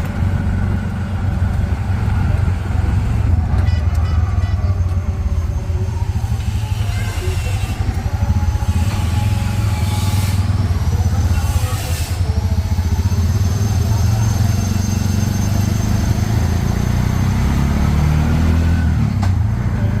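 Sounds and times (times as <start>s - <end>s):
auto-rickshaw engine droning: 0.0s - 20.0s.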